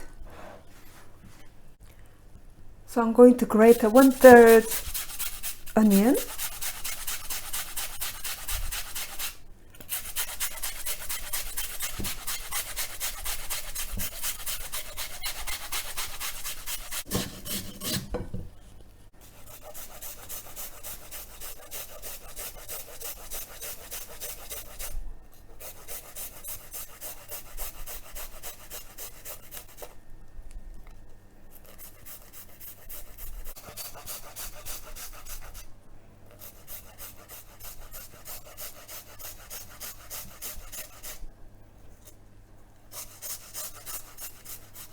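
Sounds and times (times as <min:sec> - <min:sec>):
onion grated on hand grater: 0:03.4 - 0:18.2, 0:19.2 - 0:30.0, 0:31.6 - 0:35.7, 0:36.4 - 0:41.2, 0:42.9 - 0:44.9.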